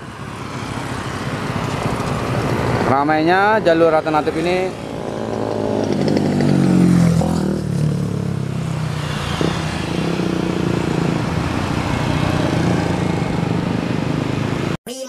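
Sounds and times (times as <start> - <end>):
mixed engine hum: 0.0 - 14.8
motorcycles riding past: 0.0 - 14.8.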